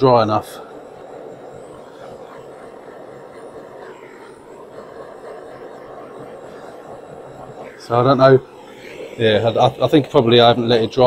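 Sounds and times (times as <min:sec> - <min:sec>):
gas torch hissing: 0:00.0 - 0:11.0.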